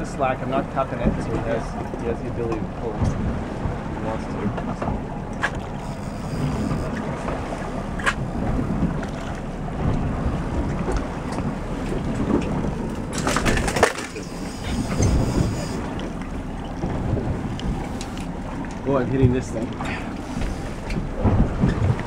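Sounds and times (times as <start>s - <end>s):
sea and boat rumbling hiss: 0.0s - 22.0s
wind buffeting microphone: 0.0s - 22.0s.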